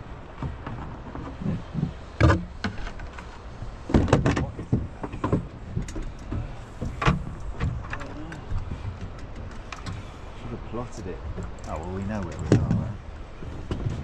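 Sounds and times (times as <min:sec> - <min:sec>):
knocks and clatters on boat: 0:00.0 - 0:14.0
low rumble of wind and water: 0:00.0 - 0:14.0.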